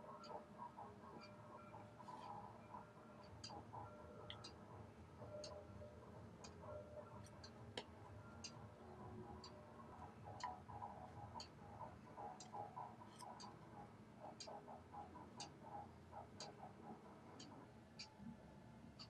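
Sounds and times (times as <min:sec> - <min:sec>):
clock ticking: 0:00.0 - 0:19.0.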